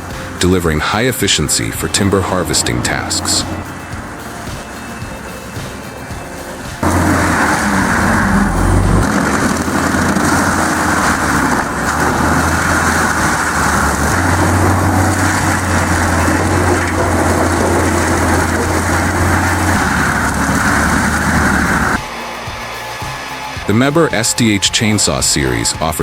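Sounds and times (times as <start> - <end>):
wood-processing machine engine hum: 0.0 - 22.0
wood grinding and cutting: 0.0 - 26.0.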